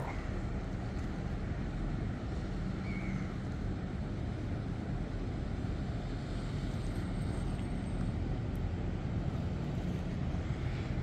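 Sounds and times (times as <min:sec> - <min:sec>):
boat engine rumble: 0:00.0 - 0:11.0
river drone: 0:00.0 - 0:11.0.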